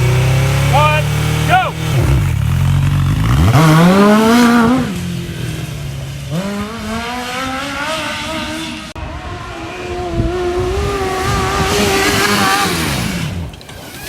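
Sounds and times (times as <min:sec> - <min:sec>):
buggy engine revving hard: 0:00.0 - 0:14.0.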